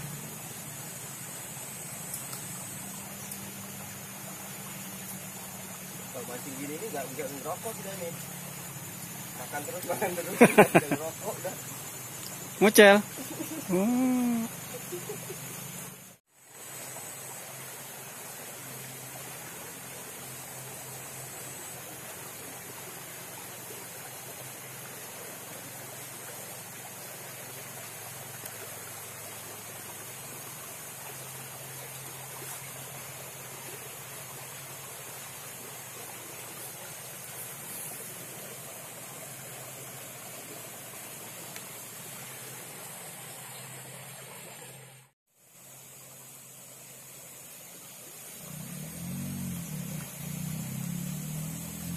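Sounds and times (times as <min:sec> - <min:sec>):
flowing creek water: 0:00.0 - 0:51.9.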